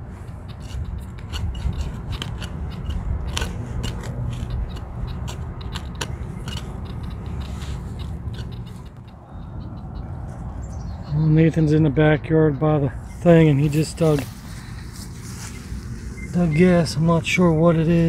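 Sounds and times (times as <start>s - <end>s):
device handling clicks and rubbing: 0.0s - 10.5s, 13.0s - 17.4s.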